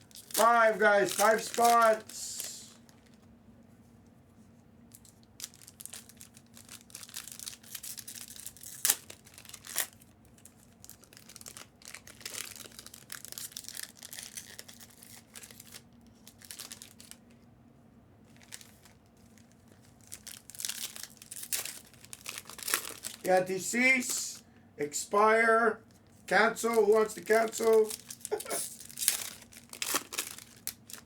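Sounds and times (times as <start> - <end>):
plastic packaging crinkling and tearing: 0.0 - 3.3, 4.9 - 17.4, 18.2 - 24.2, 26.4 - 31.0.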